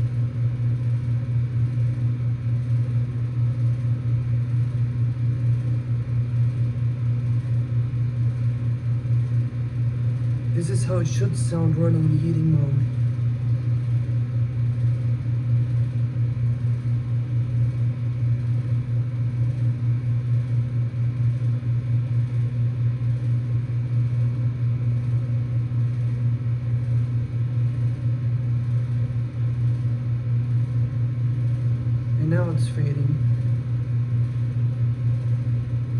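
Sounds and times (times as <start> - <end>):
heat pump compressor humming: 0.0 - 35.9.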